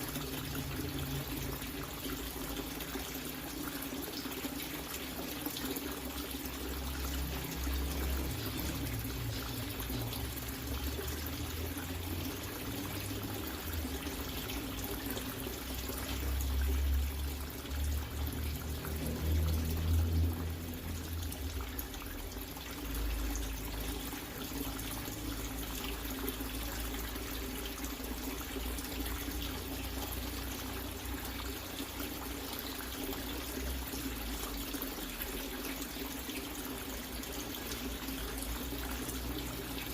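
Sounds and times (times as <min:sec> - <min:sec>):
low steady hum: 0:00.0 - 0:39.9
water running and pouring: 0:00.0 - 0:39.9.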